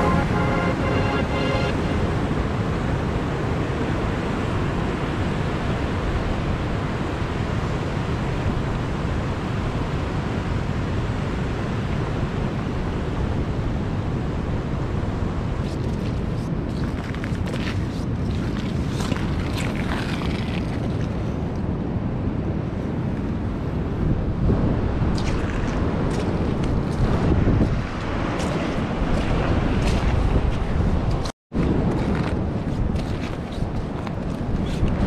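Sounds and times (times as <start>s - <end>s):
ocean surf washing: 0.0s - 35.0s
wind rumbling on microphone: 0.0s - 35.0s.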